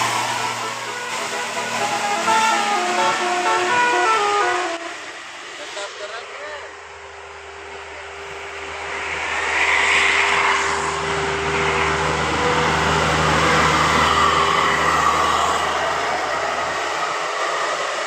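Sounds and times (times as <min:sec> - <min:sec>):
bus driving past: 0:00.0 - 0:18.0.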